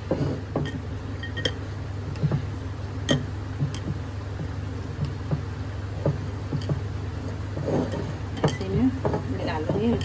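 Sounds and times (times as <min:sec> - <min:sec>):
mixing by hand in a bowl: 0:00.0 - 0:10.0
steady low hum: 0:00.0 - 0:10.0.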